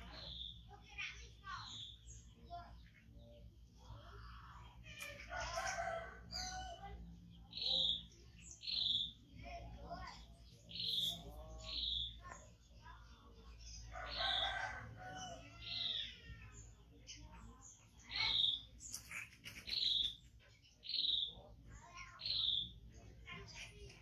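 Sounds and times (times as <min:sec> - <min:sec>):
faint voices: 0:00.0 - 0:24.0.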